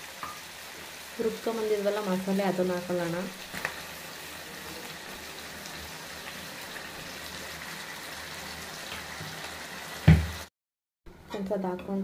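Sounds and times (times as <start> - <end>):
chicken sizzling in oil: 0.0 - 10.5.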